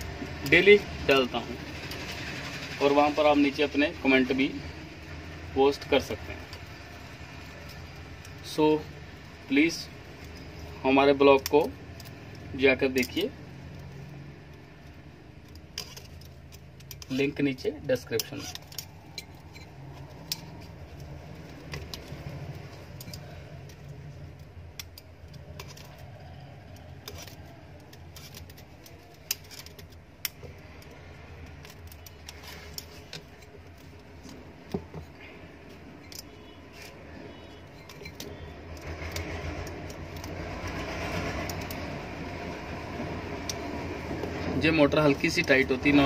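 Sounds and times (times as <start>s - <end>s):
wire rustling and clicking: 0.0s - 46.0s.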